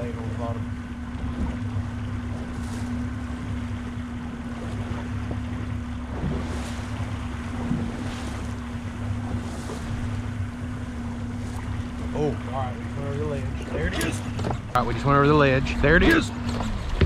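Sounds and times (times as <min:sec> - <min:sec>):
boat engine droning: 0:00.0 - 0:17.0
water splashing against hull: 0:00.0 - 0:17.0.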